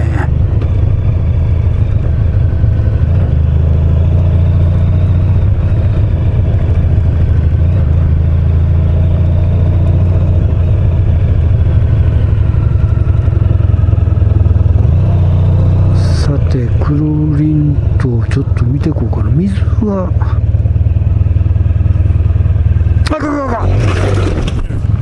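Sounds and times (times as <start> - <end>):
motorcycle engine running at low speed: 0.0 - 25.0.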